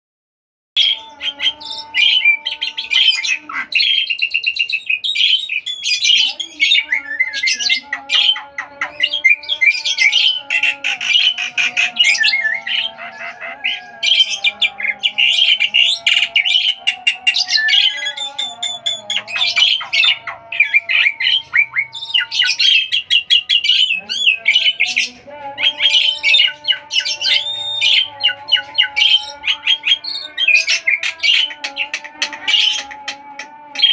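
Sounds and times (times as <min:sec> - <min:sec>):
songbirds chirping: 0:00.8 - 0:33.9.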